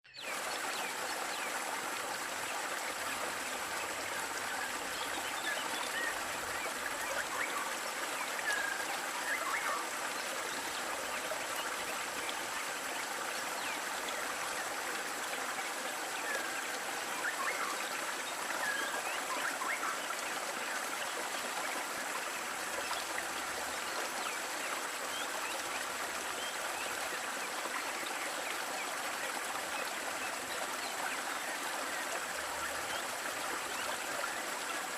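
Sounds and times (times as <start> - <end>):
waterfall splashing and trickling: 0.1 - 34.9.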